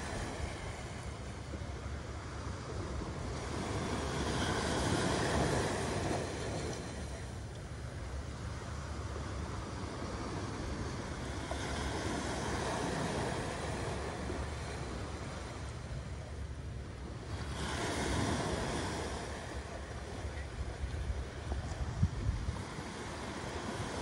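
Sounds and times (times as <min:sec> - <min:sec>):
small waves washing on sand: 0:00.0 - 0:24.0
wind on microphone: 0:00.0 - 0:24.0.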